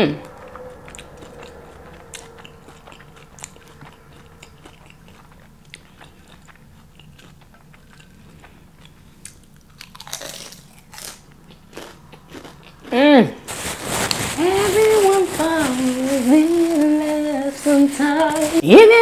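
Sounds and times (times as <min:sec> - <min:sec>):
crunchy chewing: 0:00.2 - 0:18.6.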